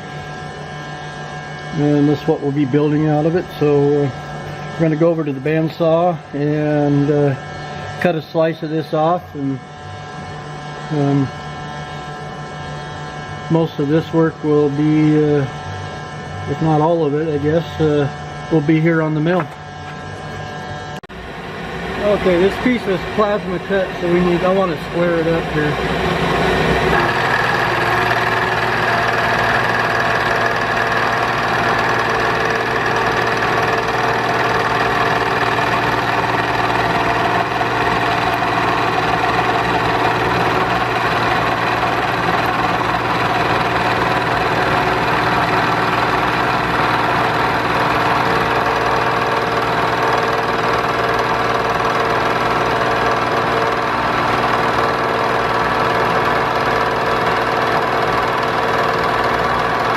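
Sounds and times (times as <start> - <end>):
milling machine cutting metal: 0.0 - 9.4, 10.8 - 59.9.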